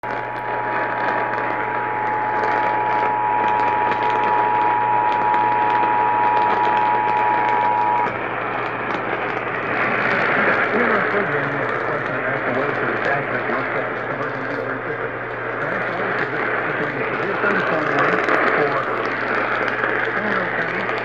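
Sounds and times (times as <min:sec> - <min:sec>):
radio static: 0:00.0 - 0:21.0.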